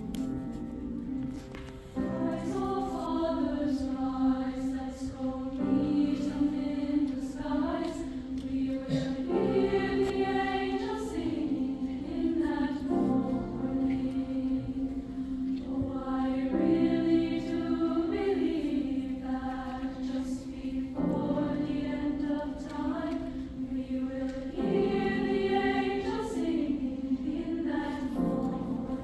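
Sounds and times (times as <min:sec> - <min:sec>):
girls' choir singing: 0:02.0 - 0:29.0.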